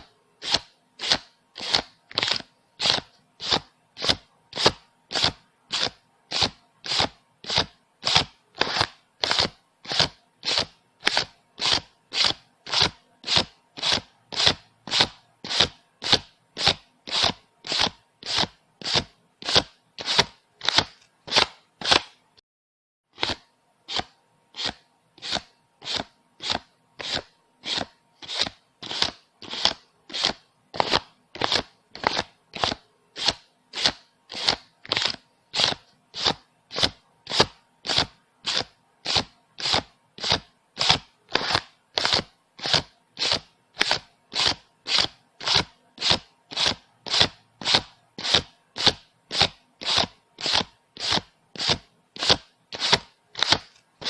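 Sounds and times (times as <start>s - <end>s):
banknotes being counted by hand: 0.0s - 22.2s, 23.1s - 54.0s.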